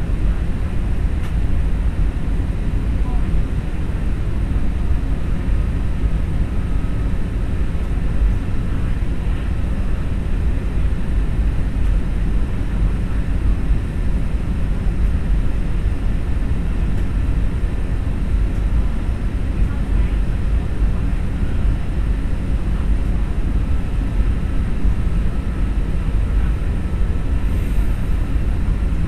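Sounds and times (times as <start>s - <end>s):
airliner cabin jet engine rumble: 0.0s - 29.0s.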